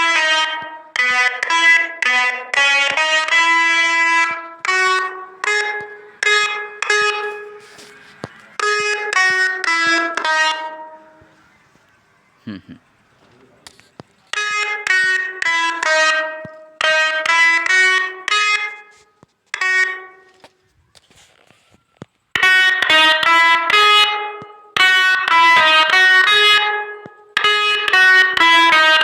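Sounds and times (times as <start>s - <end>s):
multi-tone bus horn melodies: 0.0s - 11.8s, 13.7s - 21.7s, 22.4s - 29.0s.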